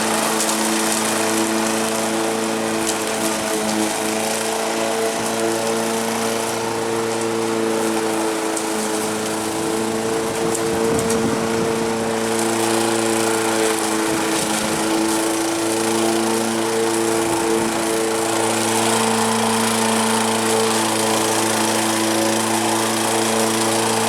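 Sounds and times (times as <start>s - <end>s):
lawnmower engine running: 0.0s - 24.0s.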